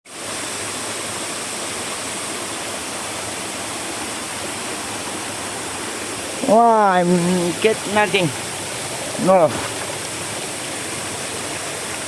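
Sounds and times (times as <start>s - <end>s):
fast-flowing water rushing: 0.1s - 12.0s.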